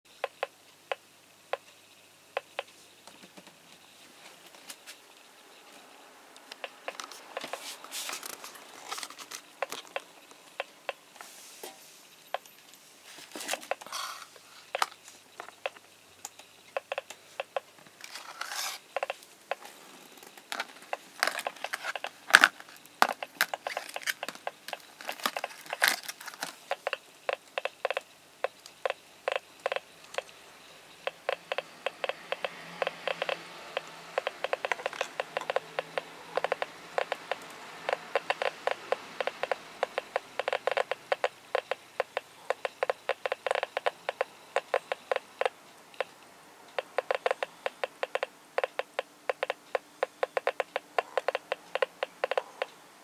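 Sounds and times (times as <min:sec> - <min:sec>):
geiger counter clicking: 0:00.1 - 0:04.0, 0:06.3 - 0:07.6, 0:09.0 - 0:11.1, 0:13.5 - 0:52.8.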